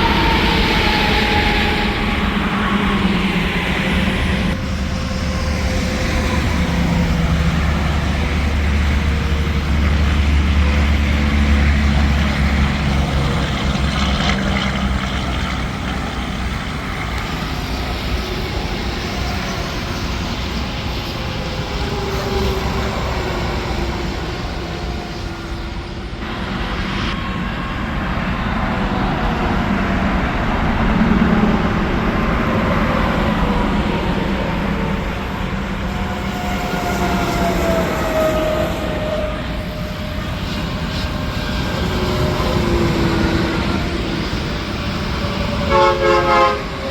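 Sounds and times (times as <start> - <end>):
diesel engine drone: 0.0 - 46.9
tyre roar of passing traffic: 0.0 - 46.9.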